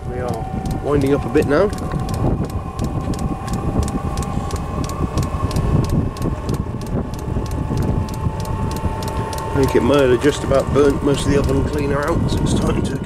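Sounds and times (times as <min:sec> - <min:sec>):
fuel pump ticking: 0:00.0 - 0:13.0
heater fan motor whine: 0:00.0 - 0:13.0
low combustion rumble: 0:00.0 - 0:13.0.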